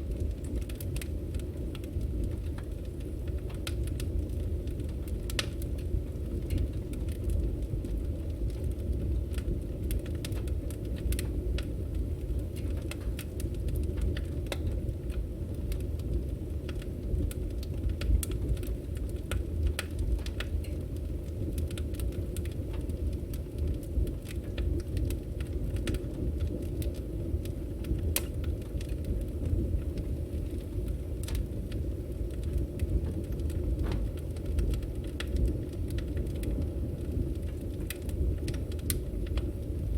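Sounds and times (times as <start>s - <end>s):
logs crackling and popping: 0.0s - 39.9s
low rumble of fire: 0.0s - 39.9s.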